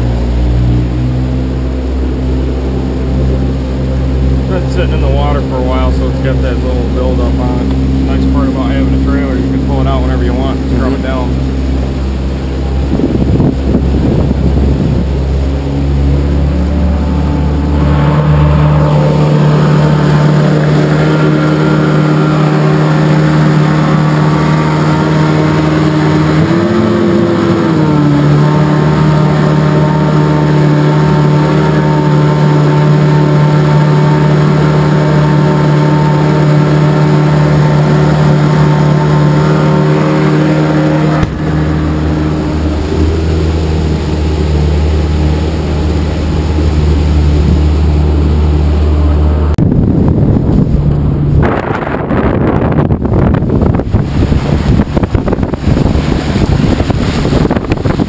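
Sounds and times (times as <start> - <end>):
boat motor running: 0.0 - 58.0.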